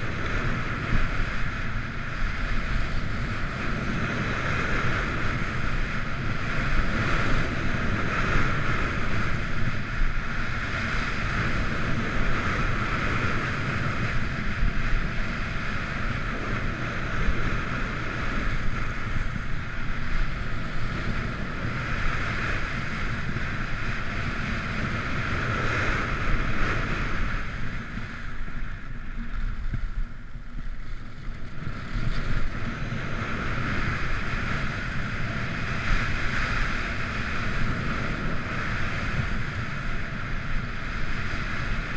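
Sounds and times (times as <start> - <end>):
wind rushing across microphone: 0.0 - 41.9.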